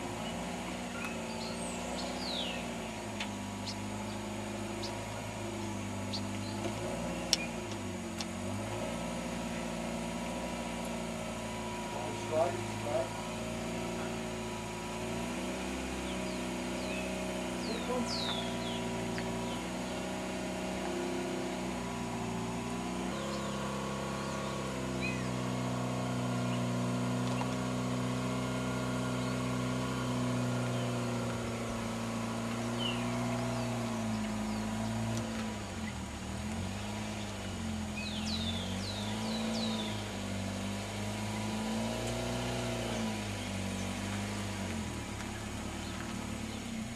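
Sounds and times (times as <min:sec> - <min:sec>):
birds chirping: 0:00.0 - 0:46.9
car engine idling: 0:00.0 - 0:46.9.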